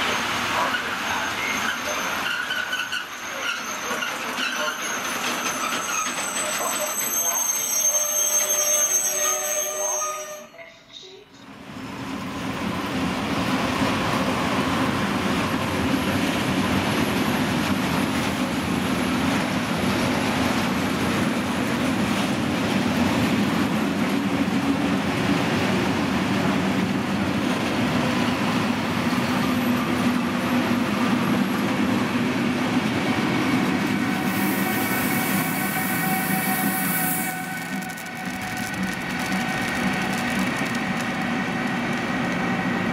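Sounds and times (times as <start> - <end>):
freight train wheels rumbling: 0.0 - 9.7, 11.6 - 42.9
electric locomotive whining: 0.0 - 10.6, 11.7 - 42.9.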